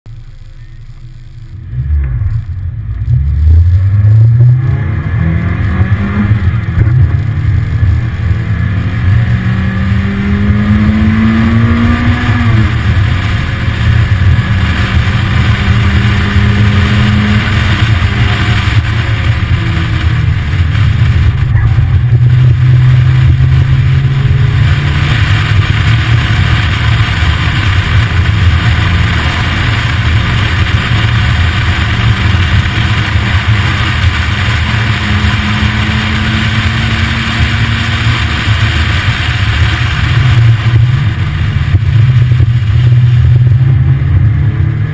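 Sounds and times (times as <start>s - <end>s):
car engine accelerating: 0.1s - 44.9s.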